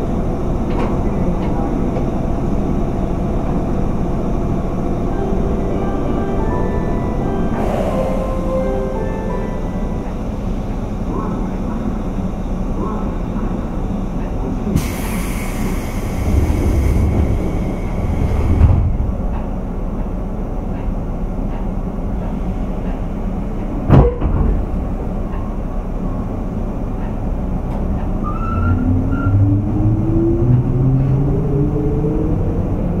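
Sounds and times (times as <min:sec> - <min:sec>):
train running rumble: 0:00.0 - 0:33.0.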